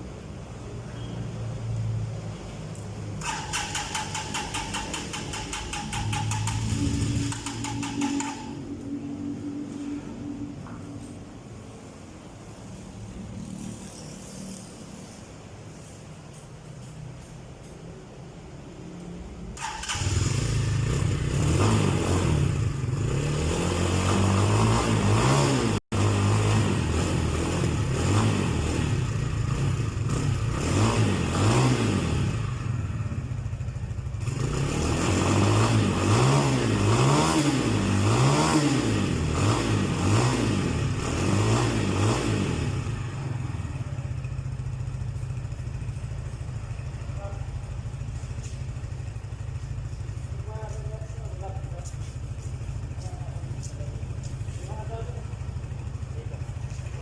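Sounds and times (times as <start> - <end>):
motorcycle engine revving: 2.7 - 11.1, 19.6 - 57.0.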